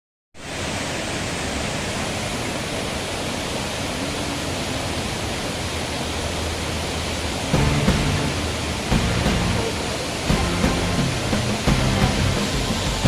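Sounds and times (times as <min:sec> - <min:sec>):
waterfall pouring over rocks: 0:00.4 - 0:13.0.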